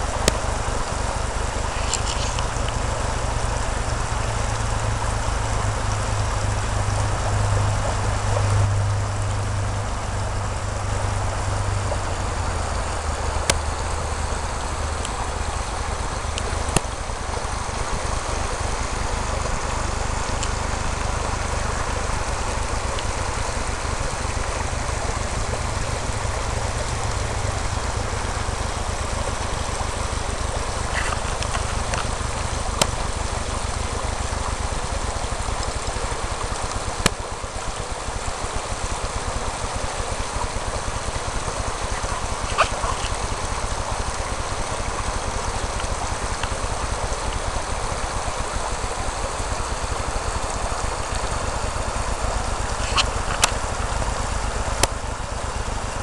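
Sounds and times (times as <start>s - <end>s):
low hum: 0.0s - 56.0s
river rushing over stones: 0.0s - 56.0s.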